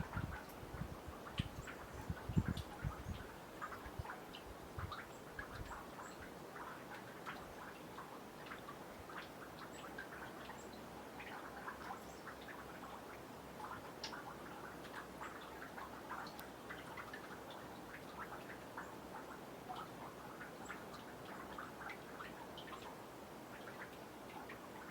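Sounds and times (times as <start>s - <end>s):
meltwater dripping into pond: 0.0s - 24.9s.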